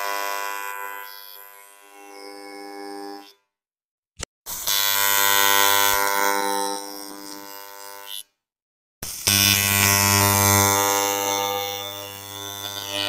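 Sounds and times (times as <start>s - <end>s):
welding arc buzzing: 0.0s - 3.3s, 4.5s - 8.3s, 9.0s - 13.0s.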